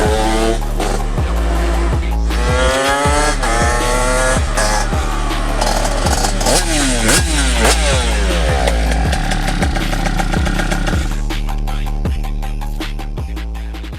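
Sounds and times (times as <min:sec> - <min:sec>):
motorcycle engine revving: 0:00.0 - 0:11.7
background music with deep beat: 0:00.0 - 0:13.9.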